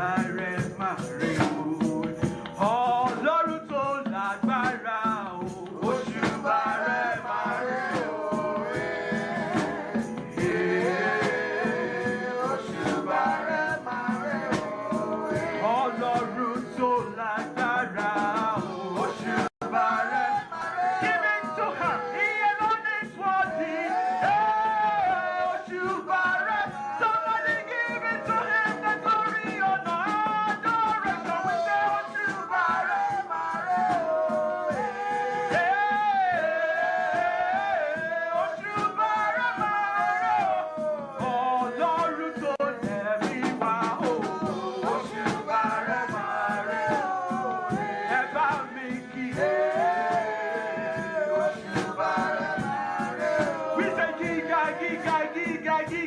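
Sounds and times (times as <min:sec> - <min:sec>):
percussion beat: 0:00.0 - 0:56.0.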